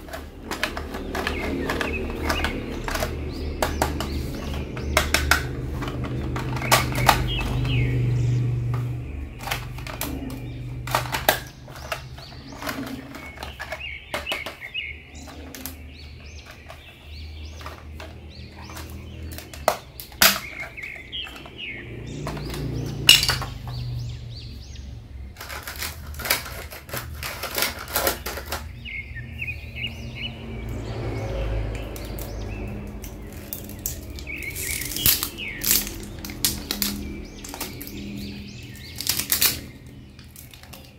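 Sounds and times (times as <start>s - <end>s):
plastic toy clicks and knocks: 0.0s - 24.0s, 24.8s - 28.8s, 30.6s - 40.9s.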